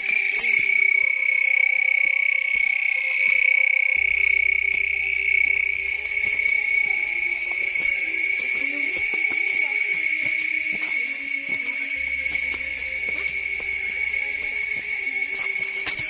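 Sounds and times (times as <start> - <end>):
cricket-like trill: 0.0 - 16.0.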